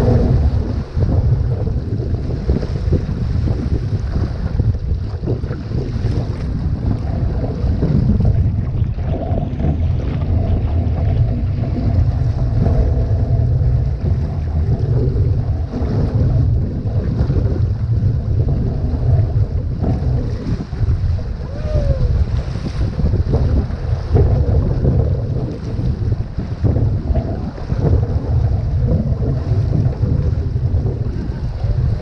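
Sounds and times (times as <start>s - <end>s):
water rushing along a hull: 0.0s - 32.0s
wind buffeting microphone: 0.0s - 32.0s.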